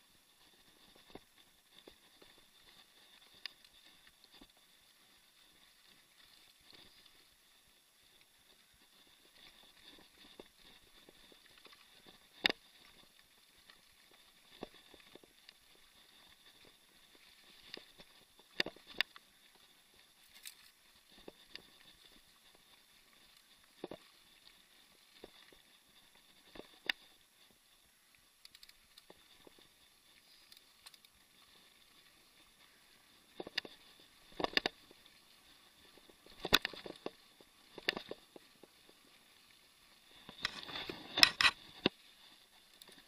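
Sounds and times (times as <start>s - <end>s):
faint steady hiss: 0.0s - 43.0s.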